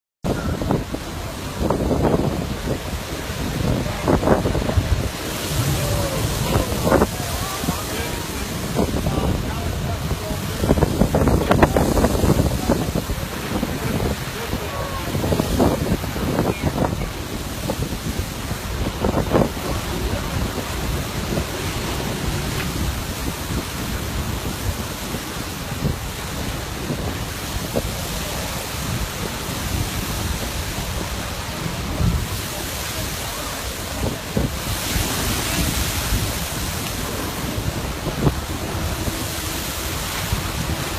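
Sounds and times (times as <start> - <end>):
water rushing: 0.2 - 40.9
wind buffeting microphone: 0.2 - 40.9
wind rushing: 0.3 - 40.9.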